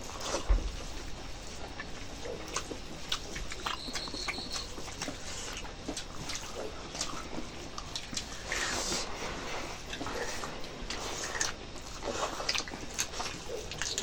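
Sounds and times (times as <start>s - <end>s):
chewing and lip smacking: 0.0s - 14.0s
wet slurp: 2.3s - 14.0s.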